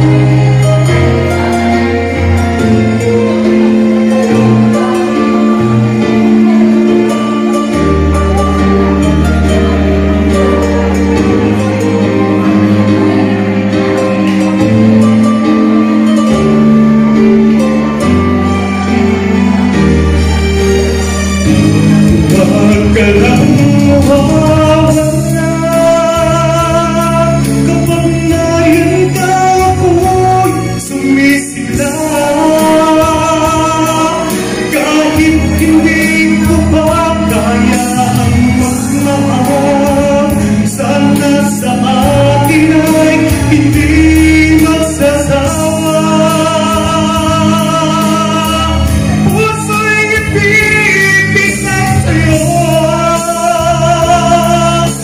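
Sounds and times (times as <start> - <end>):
backing music: 0.0 - 55.0
man singing into a microphone: 0.0 - 55.0.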